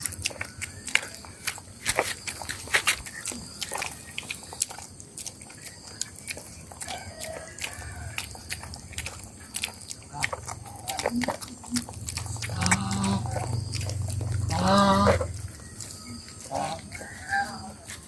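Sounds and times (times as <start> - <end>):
dog crunching food: 0.0 - 18.0.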